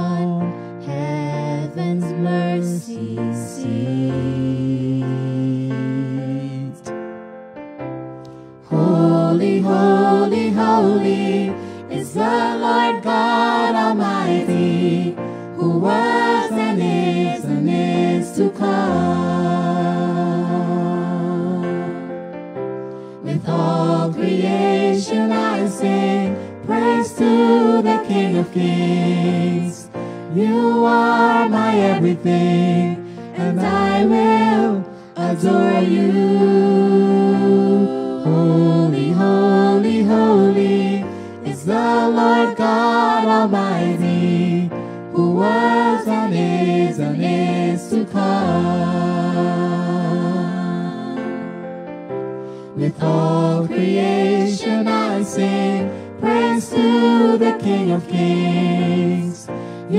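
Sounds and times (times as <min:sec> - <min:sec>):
voices singing a hymn: 0:00.0 - 0:07.0, 0:08.2 - 0:59.9.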